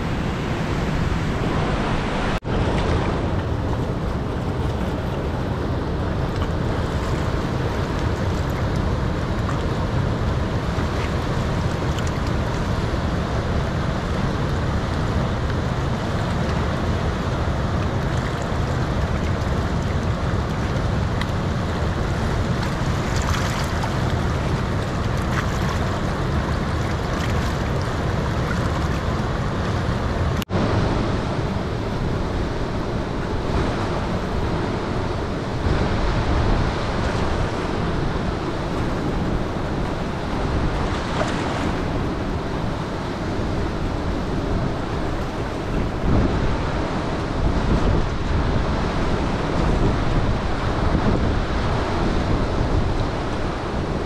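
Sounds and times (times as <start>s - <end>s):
river rushing through rapids: 0.0s - 54.0s.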